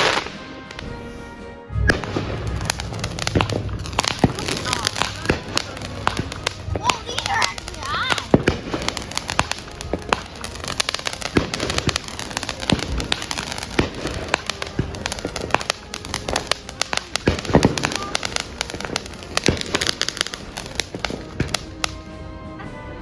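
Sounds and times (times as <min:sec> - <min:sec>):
heavy firework bangs: 0:00.0 - 0:22.2
fireworks popping and crackling: 0:00.0 - 0:22.4.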